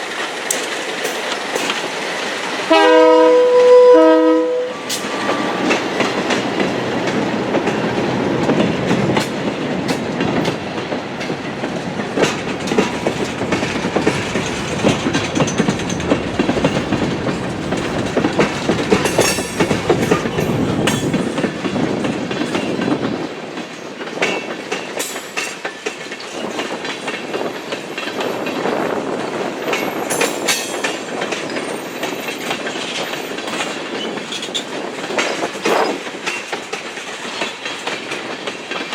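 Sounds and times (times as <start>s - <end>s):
wheels clicking over rail joints: 0.0s - 3.9s, 4.8s - 38.9s
train rumble: 0.0s - 38.9s.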